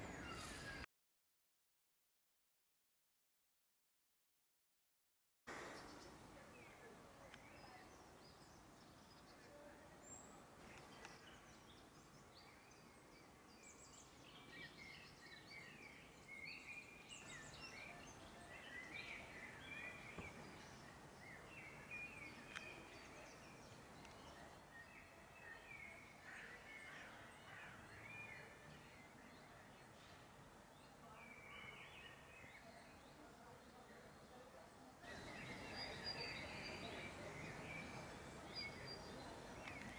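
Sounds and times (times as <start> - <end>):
songbirds chirping: 0.0 - 0.9, 5.5 - 39.9
low steady background noise: 5.5 - 39.9.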